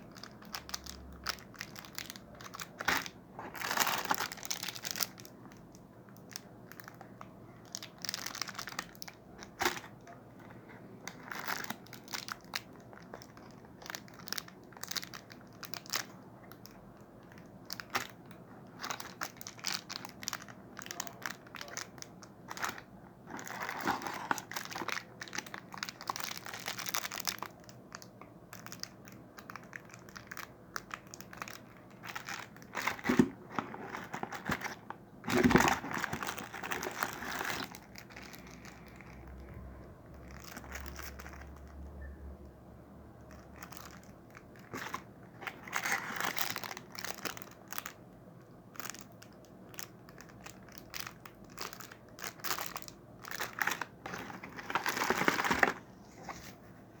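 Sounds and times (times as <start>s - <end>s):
plastic packaging crinkling: 0.0s - 39.5s, 40.1s - 41.8s, 43.3s - 56.7s.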